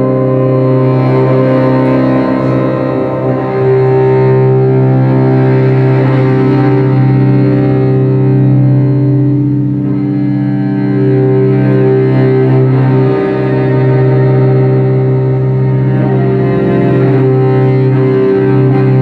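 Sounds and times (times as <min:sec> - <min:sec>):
bowed cello: 0:00.0 - 0:19.0
synthesizer drone: 0:00.0 - 0:19.0.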